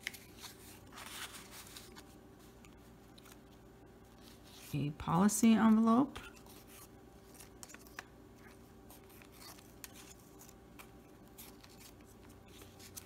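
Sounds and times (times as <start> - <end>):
string rustling on paper envelope: 0.0 - 13.0.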